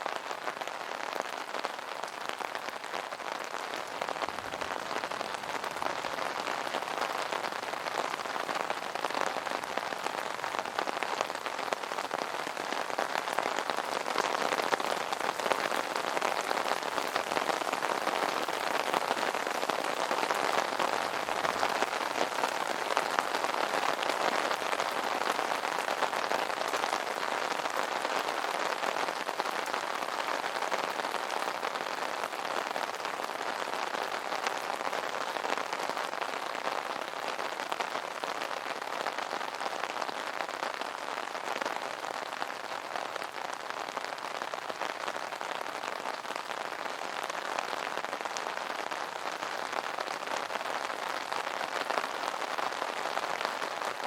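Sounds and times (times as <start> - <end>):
rain drumming on an umbrella: 0.0 - 54.0.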